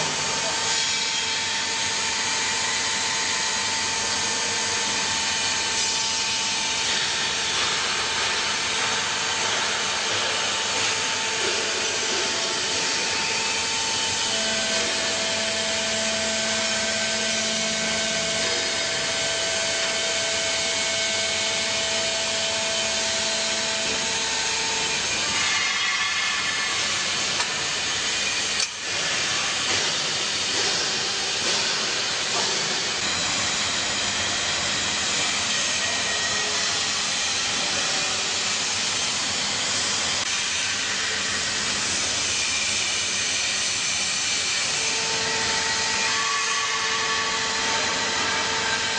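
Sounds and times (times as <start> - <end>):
hydraulic pump motor running: 0.0 - 48.9.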